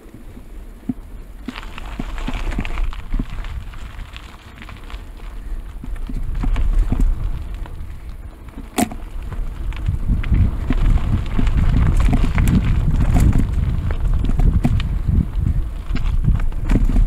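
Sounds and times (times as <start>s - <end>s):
bike tyres rumbling on dirt: 0.0s - 17.0s
clicks and rattles from roots: 0.8s - 17.0s.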